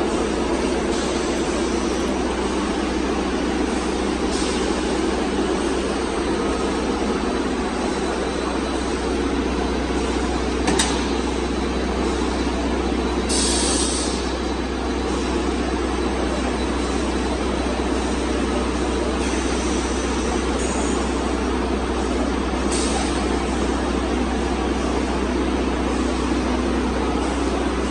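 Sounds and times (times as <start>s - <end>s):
production line running: 0.0s - 27.9s.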